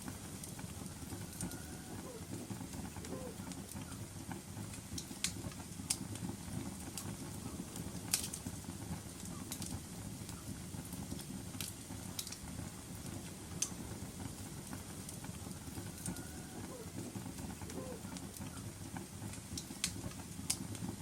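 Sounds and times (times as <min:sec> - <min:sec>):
fire burning rumble: 0:00.0 - 0:21.0
fire popping and snapping: 0:00.0 - 0:21.0.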